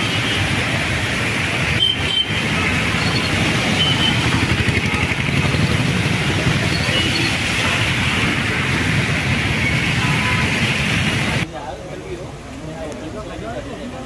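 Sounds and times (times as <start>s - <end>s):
rain: 0.0s - 14.0s
traffic on a wet road: 0.0s - 14.0s.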